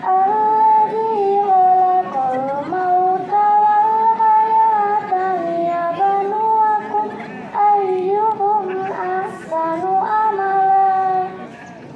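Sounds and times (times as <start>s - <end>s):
woman chanting melodically: 0.0s - 11.5s.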